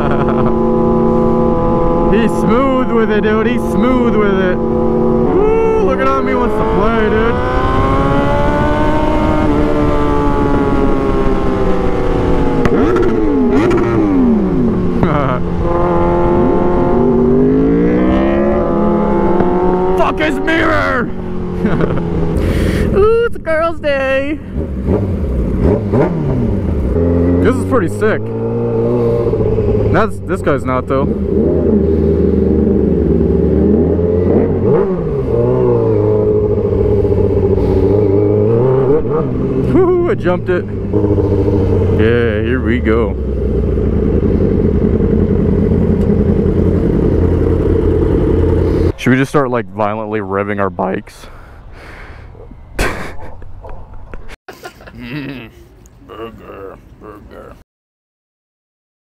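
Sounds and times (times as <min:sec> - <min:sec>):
motorcycle engine running: 0:00.0 - 0:22.8, 0:24.0 - 0:49.0.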